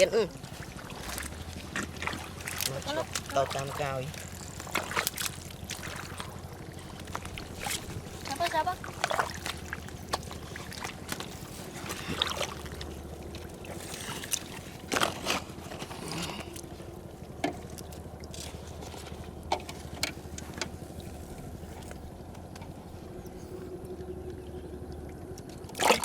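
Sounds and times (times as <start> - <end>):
steady low rumble: 0.0 - 26.0
water splashing and sloshing: 0.0 - 26.0.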